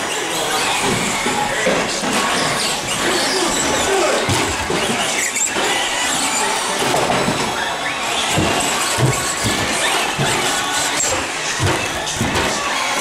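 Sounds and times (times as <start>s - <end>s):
toy truck motors whining: 0.0s - 13.0s.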